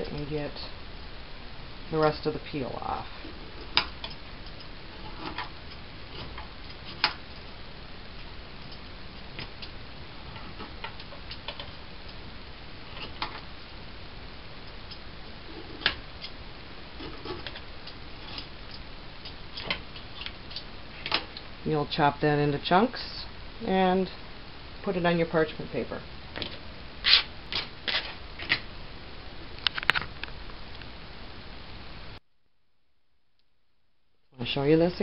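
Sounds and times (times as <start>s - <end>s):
low steady hiss: 0.0s - 35.0s.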